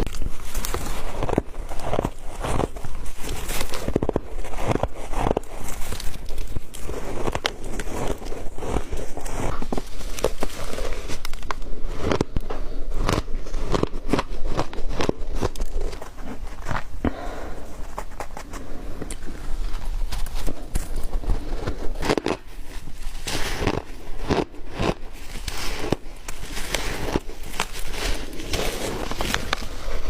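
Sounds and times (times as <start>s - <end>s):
chewing crunchy ice: 0.0s - 17.2s, 17.8s - 30.0s.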